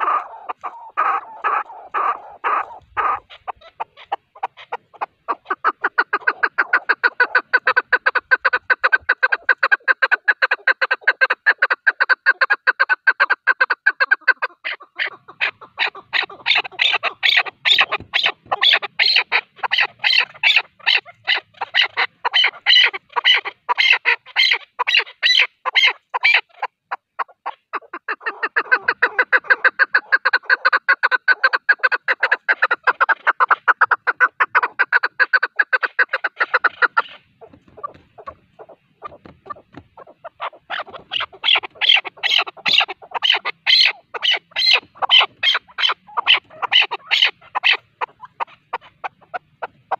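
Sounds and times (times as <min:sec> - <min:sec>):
partridge clucking calls: 0:00.0 - 0:49.9.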